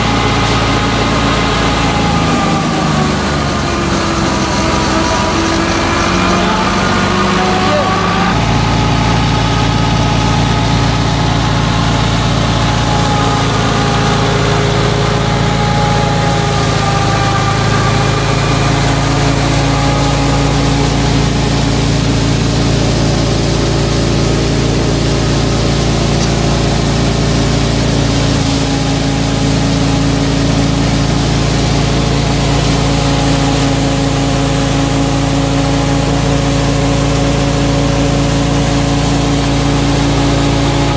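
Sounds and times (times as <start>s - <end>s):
thresher machinery whirring: 0.0s - 40.9s
tractor diesel engine running: 0.0s - 40.9s.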